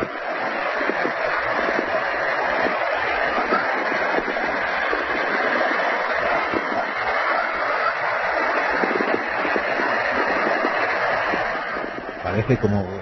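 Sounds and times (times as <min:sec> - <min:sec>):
crackling hiss: 0:00.0 - 0:13.0.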